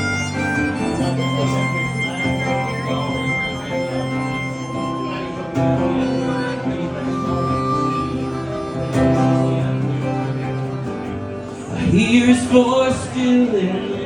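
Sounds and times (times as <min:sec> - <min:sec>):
harmonica playing held notes: 0:00.0 - 0:12.6
acoustic guitar: 0:00.0 - 0:14.0.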